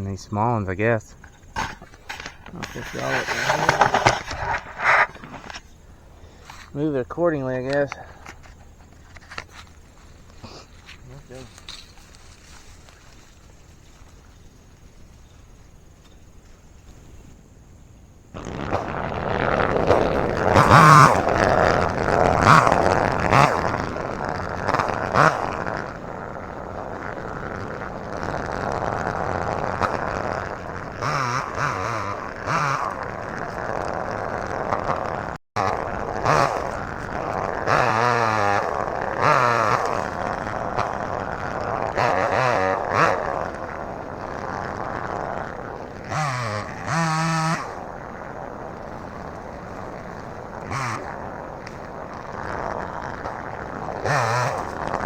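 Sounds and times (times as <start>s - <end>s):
chainsaw cutting small trees: 0.0s - 17.4s, 18.2s - 55.0s.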